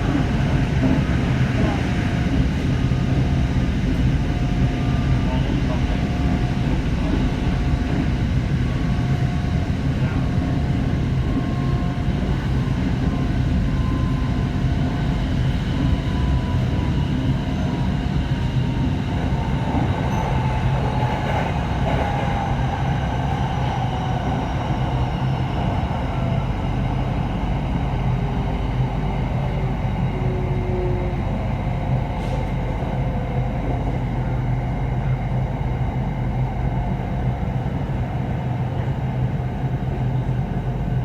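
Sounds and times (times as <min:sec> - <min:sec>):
electric train rumbling on rails: 0:00.0 - 0:41.0
thin train whine: 0:00.0 - 0:41.0.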